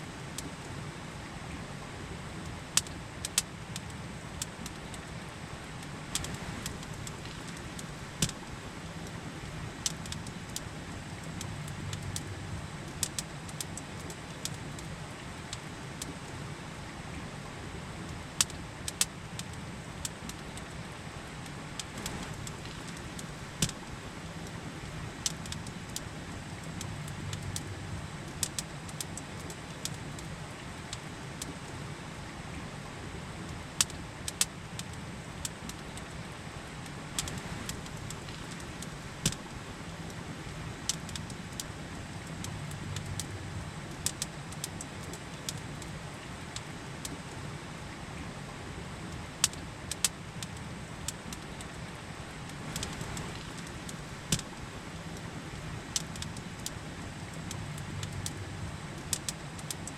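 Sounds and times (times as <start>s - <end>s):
campfire crackling and popping: 0.3s - 0.7s, 2.3s - 16.4s, 17.0s - 31.8s, 33.1s - 47.5s, 48.9s - 59.9s.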